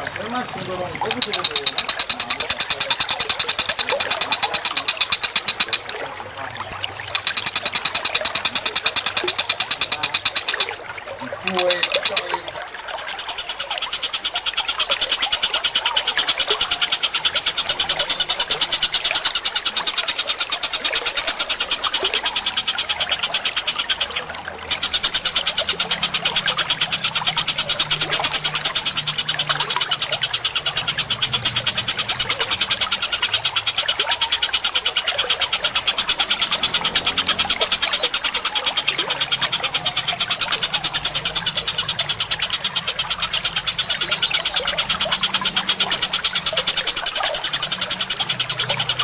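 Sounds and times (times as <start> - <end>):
rapid sharp bird chirps: 1.0 - 6.0, 7.0 - 49.0.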